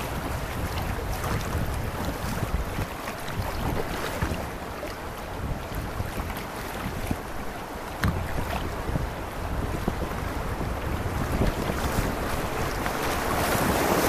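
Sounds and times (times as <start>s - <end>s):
water rushing and splashing: 0.0s - 14.0s
wind buffeting microphone: 0.0s - 14.0s.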